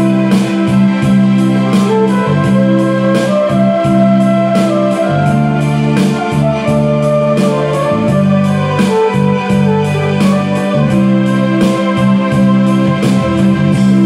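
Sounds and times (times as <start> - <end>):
flugelhorn slow melody: 0.0 - 14.0
keyboard and guitar backing track: 0.0 - 14.0.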